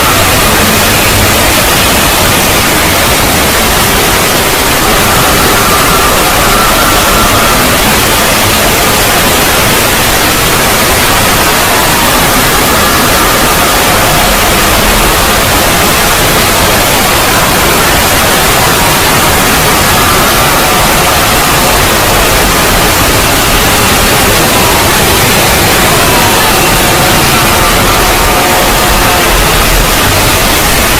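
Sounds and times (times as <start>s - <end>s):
faint wavering tones: 0.0s - 30.9s
loud steady static hiss: 0.0s - 30.9s.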